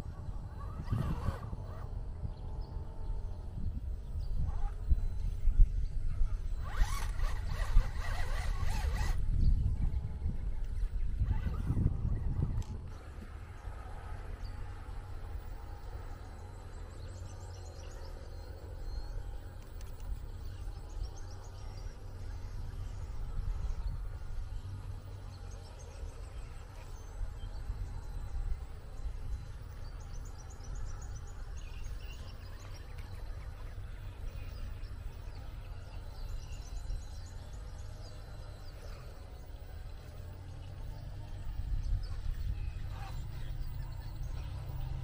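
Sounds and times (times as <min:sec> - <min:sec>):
birds chirping trills: 0:00.0 - 0:45.0
wind rumble on microphone: 0:00.0 - 0:45.0.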